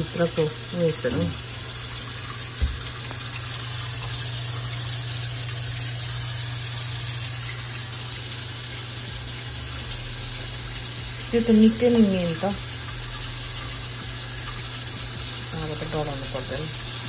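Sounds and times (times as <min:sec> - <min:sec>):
water running from tap: 0:00.0 - 0:17.0.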